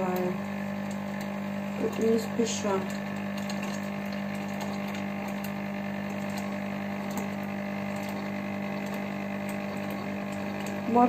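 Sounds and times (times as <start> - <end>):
ice cream maker motor humming: 0.0 - 11.0.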